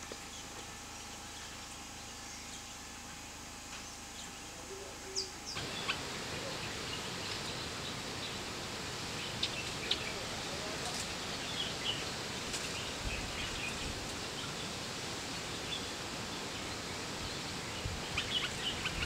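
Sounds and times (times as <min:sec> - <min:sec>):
background hiss: 0:00.0 - 0:19.0
birds chirping: 0:00.0 - 0:19.0.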